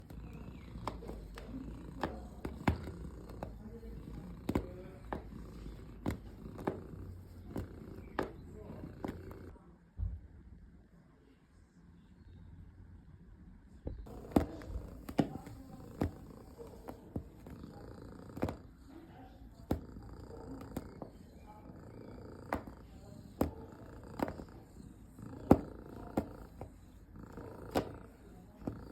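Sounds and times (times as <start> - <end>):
cat purring: 0.0 - 9.6, 13.9 - 28.9.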